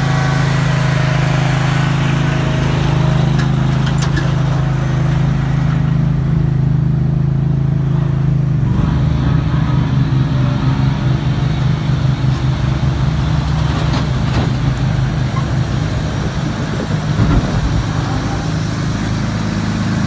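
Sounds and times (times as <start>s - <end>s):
engine running with low hum: 0.0s - 20.0s.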